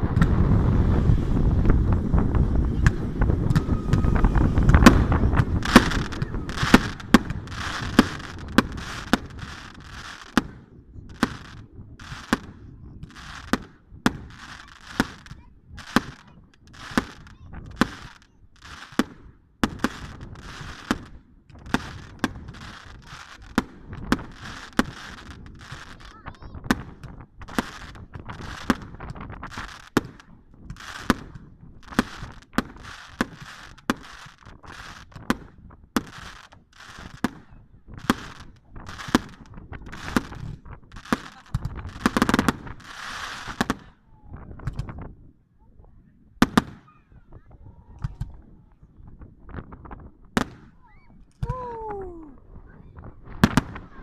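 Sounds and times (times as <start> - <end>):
firework bangs: 0.0 - 44.0, 46.4 - 47.0, 50.4 - 50.8, 53.2 - 54.0
firework crackling hiss: 0.0 - 44.0
wind rumble on microphone: 0.0 - 46.4, 47.1 - 54.0.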